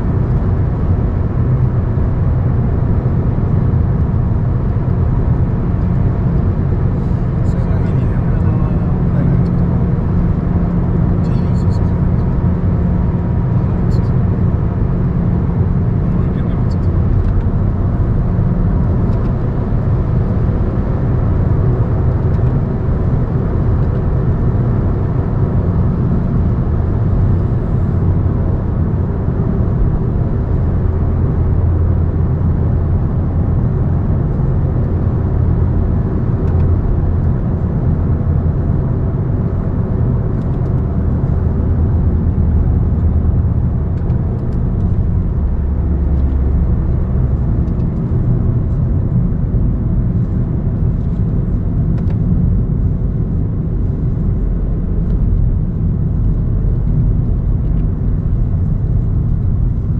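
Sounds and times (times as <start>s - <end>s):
road vehicle rumble: 0.0s - 59.9s.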